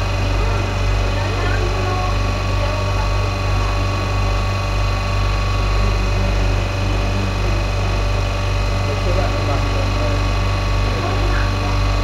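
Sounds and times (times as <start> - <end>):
refrigeration compressor humming: 0.0 - 12.0.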